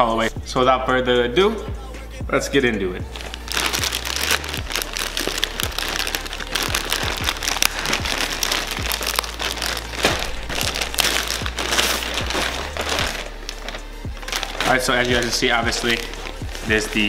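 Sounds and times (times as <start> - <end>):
background music with low beat: 0.0 - 17.0
plastic bag crinkling: 3.1 - 17.0.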